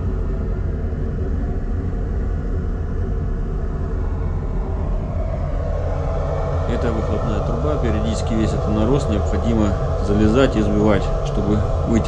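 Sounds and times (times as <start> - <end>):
engine room machinery drone: 0.0 - 12.0.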